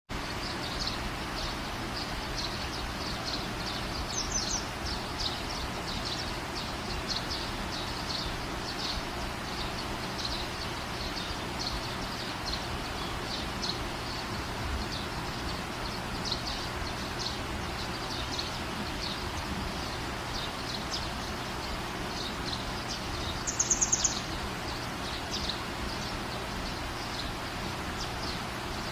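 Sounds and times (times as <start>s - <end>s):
small birds chirping: 0.1s - 28.9s
steady background hiss: 0.1s - 28.9s.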